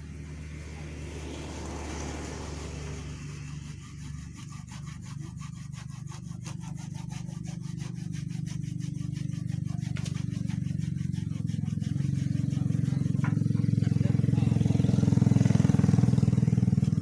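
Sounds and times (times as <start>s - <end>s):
low engine hum: 0.0s - 17.0s
hand saw rasping on wood: 0.2s - 17.0s.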